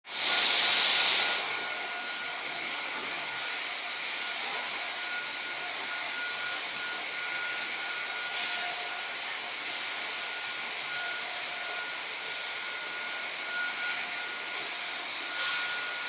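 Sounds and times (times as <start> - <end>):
mechanical whir and hiss: 0.1 - 1.9, 3.2 - 12.7, 13.5 - 16.0
faint high whine: 1.3 - 16.0.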